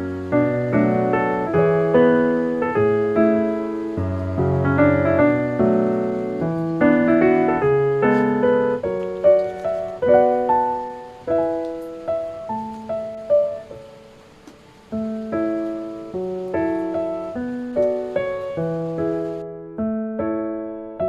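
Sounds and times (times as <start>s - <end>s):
soft piano melody: 0.0s - 21.0s.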